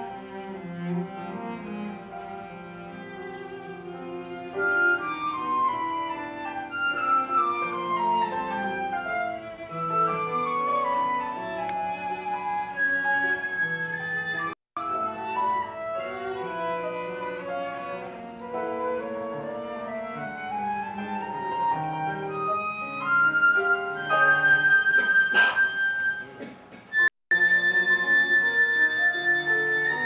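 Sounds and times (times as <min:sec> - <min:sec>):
cello playing: 0:00.0 - 0:30.0
flute playing: 0:03.0 - 0:30.0.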